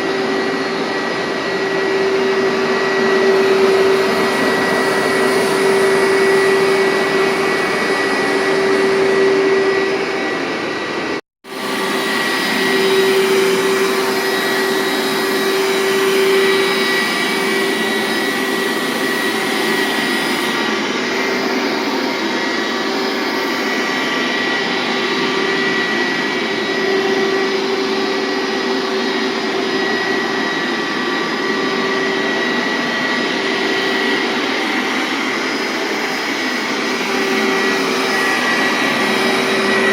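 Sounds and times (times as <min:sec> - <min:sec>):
carpet cleaner motor drone: 0:00.0 - 0:39.9.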